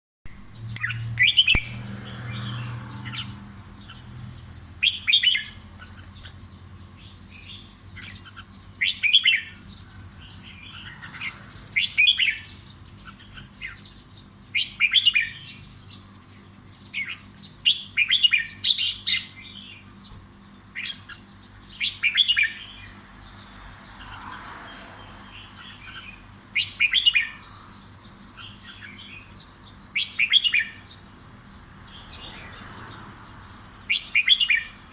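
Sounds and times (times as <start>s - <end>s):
bulbul singing: 0.3s - 24.1s, 25.2s - 34.9s.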